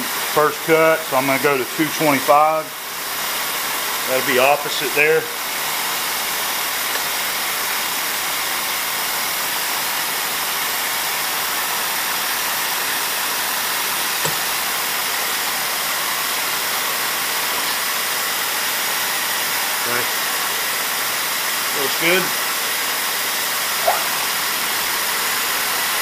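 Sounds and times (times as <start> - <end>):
milling machine running: 0.0 - 26.0
coolant nozzle hissing: 2.2 - 26.0.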